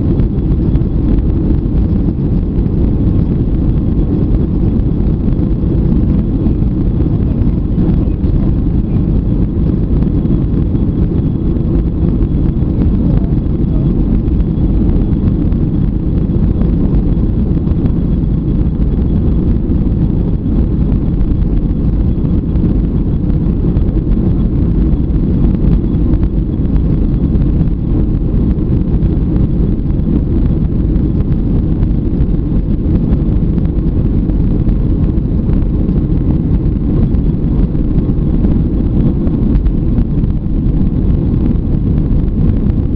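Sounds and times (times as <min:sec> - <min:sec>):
faint high whine: 0:00.0 - 0:42.9
jet engine cabin rumble: 0:00.0 - 0:42.9.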